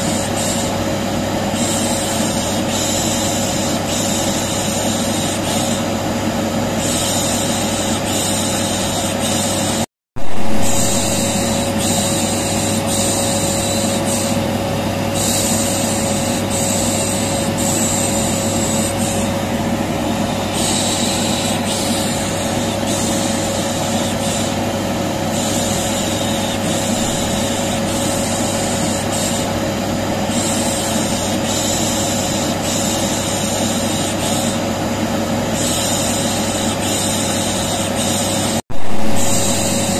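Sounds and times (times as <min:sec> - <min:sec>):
vacuum cleaner humming: 0:00.0 - 0:39.9.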